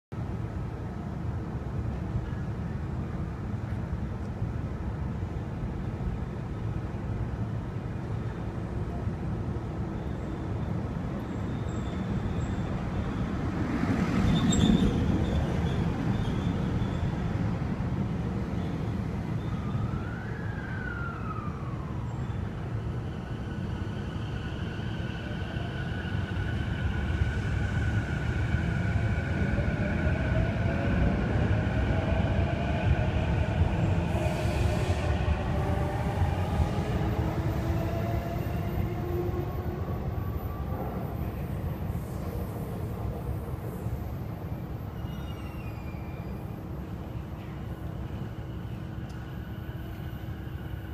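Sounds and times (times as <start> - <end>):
city traffic rumble: 0.1 - 50.9.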